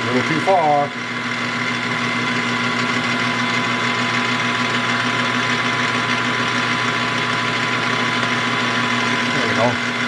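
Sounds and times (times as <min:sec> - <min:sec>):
machine tool motor humming: 0:00.0 - 0:10.0.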